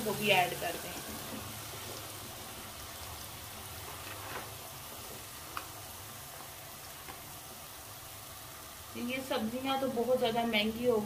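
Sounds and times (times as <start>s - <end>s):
masala sizzling in a pan: 0.0s - 11.0s.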